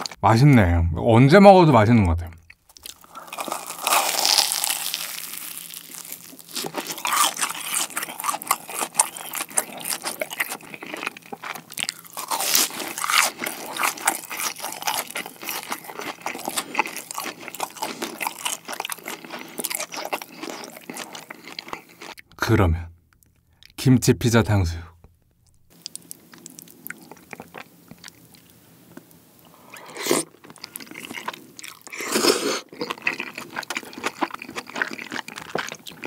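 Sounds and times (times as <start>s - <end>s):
crunchy chewing: 2.4s - 22.2s, 25.4s - 36.0s.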